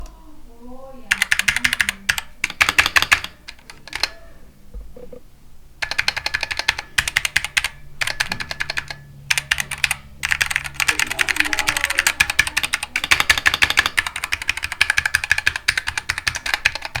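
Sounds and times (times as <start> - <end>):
mechanical keyboard keys clacking: 1.1 - 4.2, 5.8 - 17.0.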